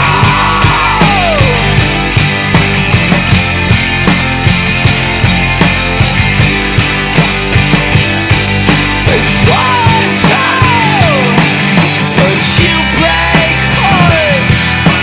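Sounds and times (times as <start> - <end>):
drums steady beat: 0.0 - 15.0
sustained bass: 0.0 - 15.0.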